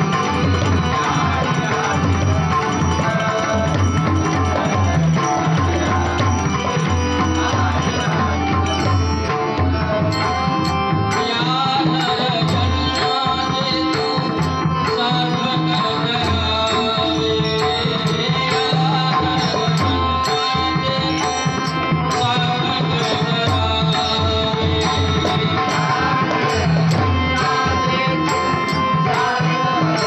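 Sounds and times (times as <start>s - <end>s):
harmonium tones: 0.0s - 30.0s.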